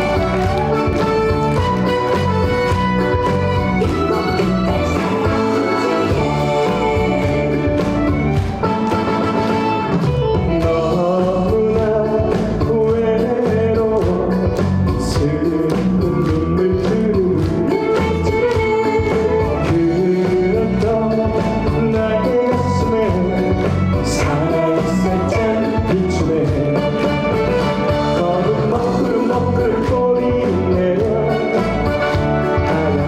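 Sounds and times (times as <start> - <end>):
person singing: 0.0 - 9.0, 10.2 - 33.0
backing track with steady beat: 0.0 - 33.0.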